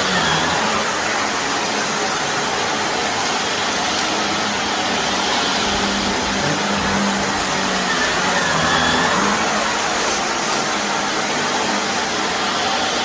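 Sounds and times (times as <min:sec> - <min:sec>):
vacuum cleaner on carpet: 0:00.0 - 0:13.0.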